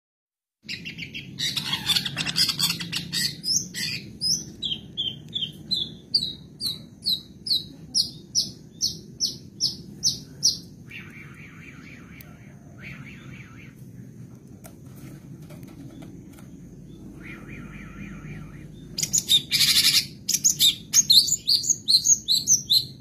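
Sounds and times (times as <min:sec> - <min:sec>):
shrike singing: 0:00.7 - 0:14.3, 0:15.8 - 0:23.0.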